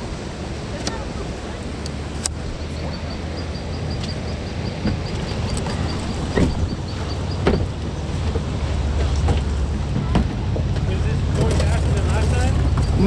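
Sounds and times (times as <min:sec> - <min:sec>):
water rumble: 0:00.0 - 0:13.0
wind on microphone: 0:00.0 - 0:13.0.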